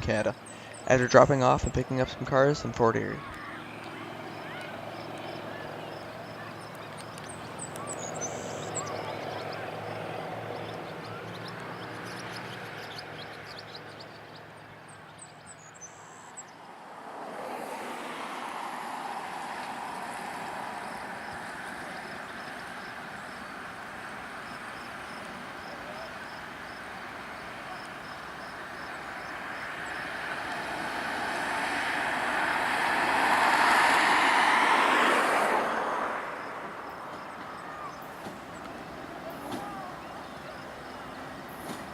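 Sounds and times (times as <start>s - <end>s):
freight train running noise: 0.0s - 15.6s, 16.7s - 41.9s
diesel engine hum: 0.0s - 41.9s.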